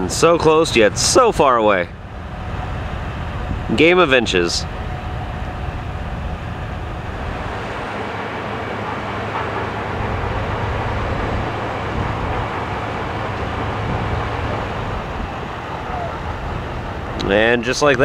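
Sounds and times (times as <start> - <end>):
heavy machinery engine rumble: 0.0 - 18.0.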